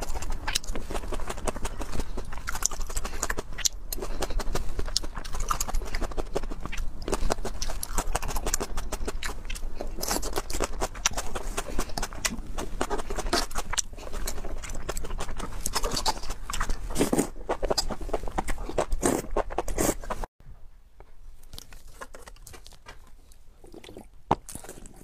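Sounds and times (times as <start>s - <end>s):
wet chewing and lip smacking: 0.0s - 20.3s, 21.4s - 25.0s.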